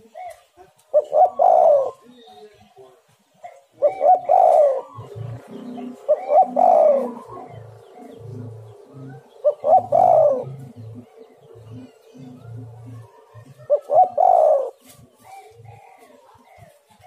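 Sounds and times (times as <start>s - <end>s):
dove cooing: 0.0s - 2.5s, 3.4s - 16.9s
quiet low cooing: 1.0s - 2.5s, 3.4s - 16.9s.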